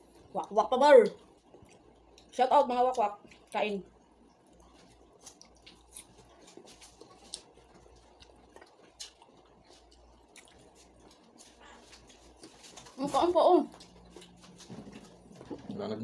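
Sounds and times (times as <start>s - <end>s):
wet chewing: 1.0s - 16.0s.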